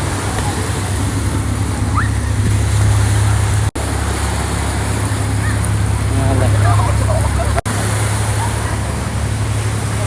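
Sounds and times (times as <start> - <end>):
boat engine droning: 0.0 - 10.0
surf: 0.0 - 10.0.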